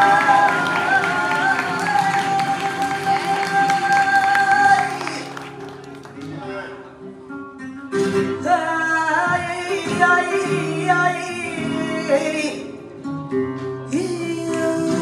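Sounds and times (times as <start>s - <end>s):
flamenco guitar: 0.0s - 15.0s
flamenco singing: 0.0s - 15.0s.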